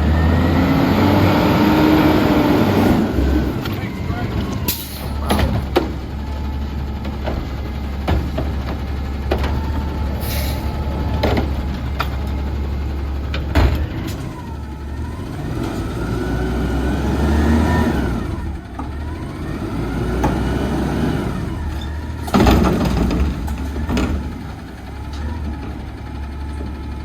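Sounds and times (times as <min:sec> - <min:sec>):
garbage truck diesel engine revving: 0:00.0 - 0:27.0.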